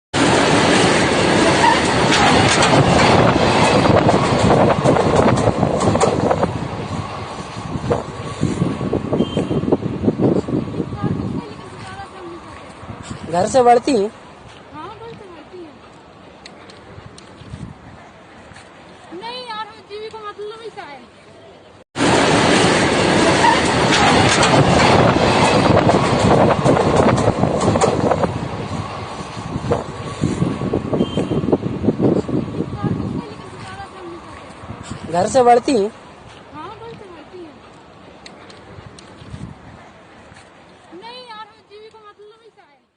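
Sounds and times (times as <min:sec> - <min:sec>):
train rumbling past: 0:00.2 - 0:16.3, 0:22.0 - 0:41.7
wheels clattering on rails: 0:00.2 - 0:17.7, 0:22.0 - 0:42.0.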